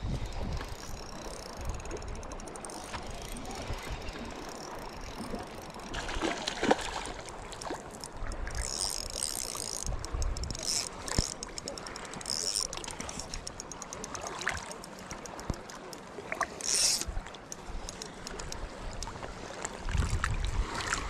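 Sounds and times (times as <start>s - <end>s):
fishing reel clicking: 0.0s - 19.3s.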